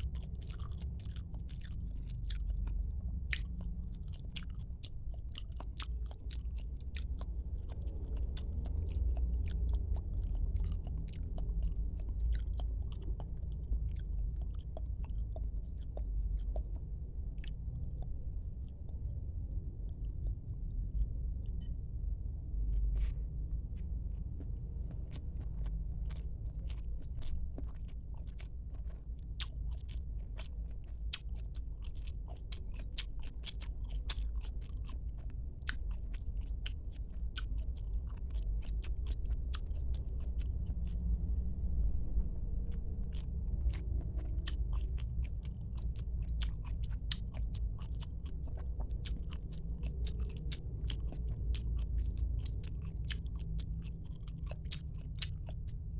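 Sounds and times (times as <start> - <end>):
chewing and biting squid: 0.0 - 55.9
steady low rumble: 0.0 - 55.9.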